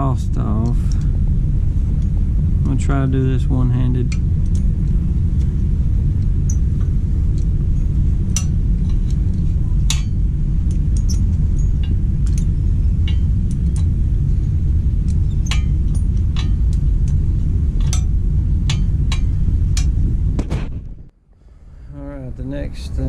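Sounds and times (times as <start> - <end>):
low rumble on microphone: 0.0 - 23.0.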